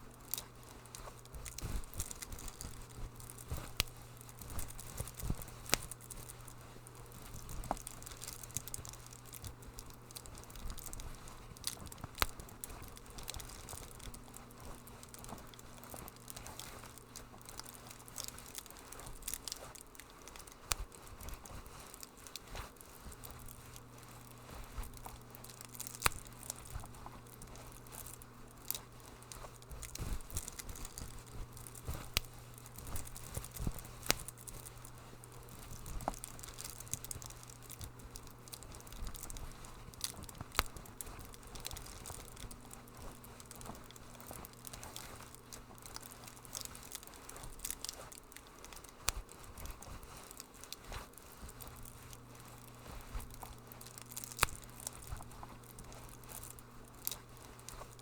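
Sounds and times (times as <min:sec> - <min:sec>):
low steady hum: 0:00.0 - 0:58.0
wood fire crackling: 0:00.0 - 0:58.0.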